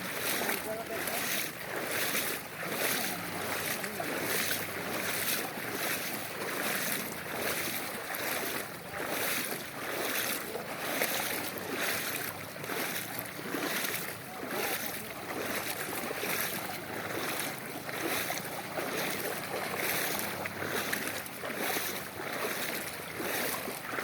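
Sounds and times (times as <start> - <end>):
floodwater rushing and splashing: 0.0 - 24.0.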